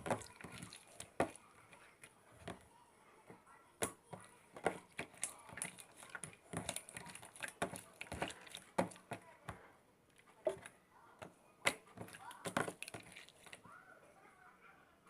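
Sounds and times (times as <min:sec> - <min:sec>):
slime clicking and squelching: 0:00.0 - 0:02.6, 0:03.8 - 0:13.7.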